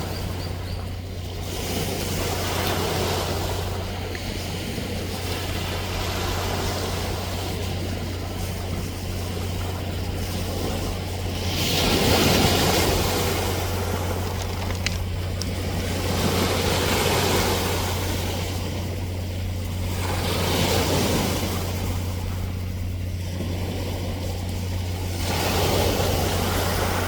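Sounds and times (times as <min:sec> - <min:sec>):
ocean waves breaking: 0:00.0 - 0:27.0
steady low hum: 0:00.0 - 0:27.0.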